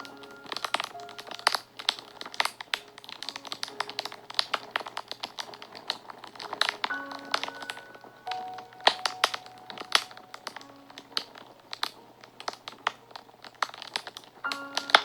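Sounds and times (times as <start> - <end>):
soft background music: 0.0 - 15.0
wood fire crackling and popping: 0.0 - 15.0.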